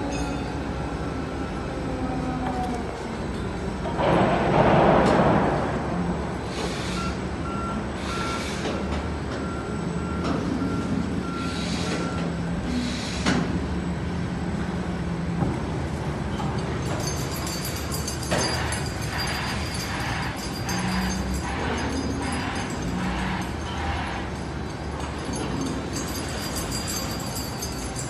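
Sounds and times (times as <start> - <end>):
low hum of crane machinery: 0.0 - 28.0.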